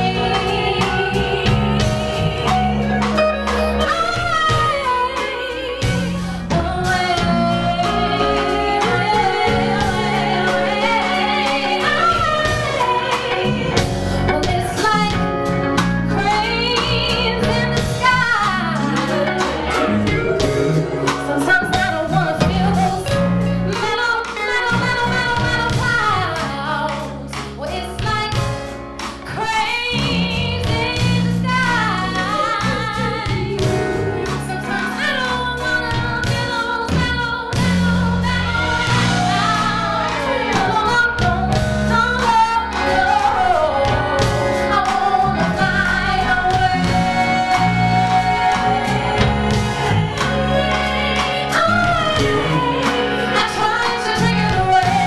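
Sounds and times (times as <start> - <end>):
woman singing with vibrato: 0.0 - 15.5, 16.1 - 28.5, 29.3 - 55.0
band playing neo-soul: 0.0 - 55.0.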